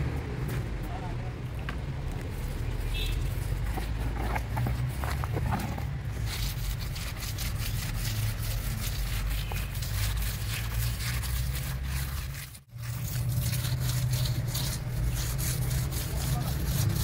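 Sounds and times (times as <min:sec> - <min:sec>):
trowel scraping wet mortar: 0:02.1 - 0:17.0.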